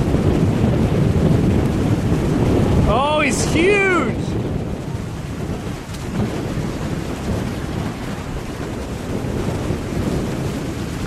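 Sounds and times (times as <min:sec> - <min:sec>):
waves breaking in surf: 0:00.0 - 0:11.0
wind buffeting microphone: 0:00.0 - 0:11.0.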